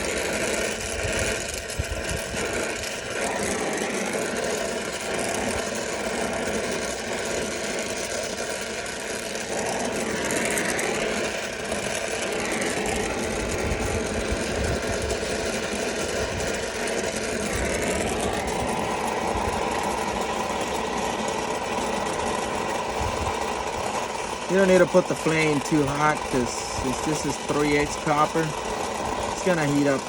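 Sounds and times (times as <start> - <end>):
brazing torch flame roaring: 0.0 - 30.0.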